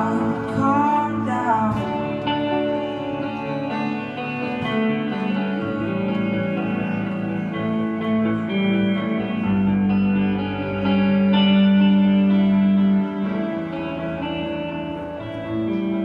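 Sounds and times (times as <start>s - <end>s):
guitar chords with reverb: 0.0s - 16.0s.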